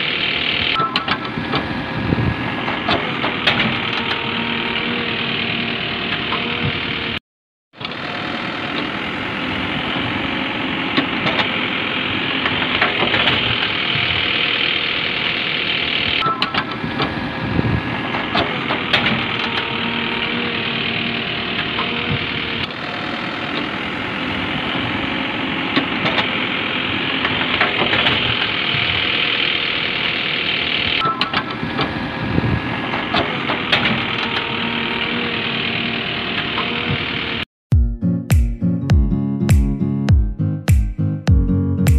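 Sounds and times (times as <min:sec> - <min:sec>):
vehicle engine running: 0:00.0 - 0:07.2, 0:07.8 - 0:37.5.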